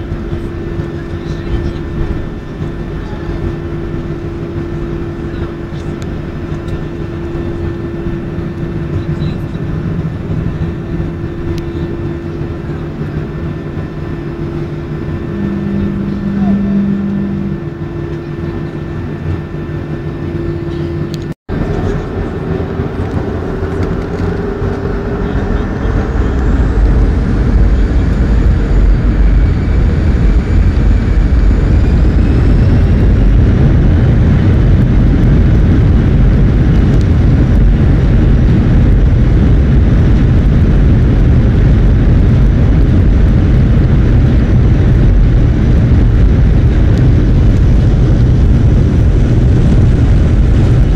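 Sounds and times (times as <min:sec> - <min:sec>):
jet engines spooling up: 0:00.0 - 0:50.9
rising engine whines: 0:00.0 - 0:50.9.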